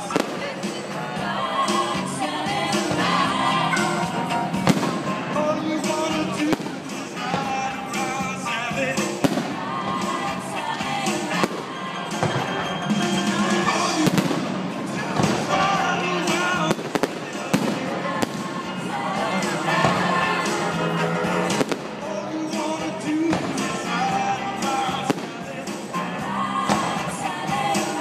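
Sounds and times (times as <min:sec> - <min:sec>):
music with vocals: 0:00.0 - 0:28.0.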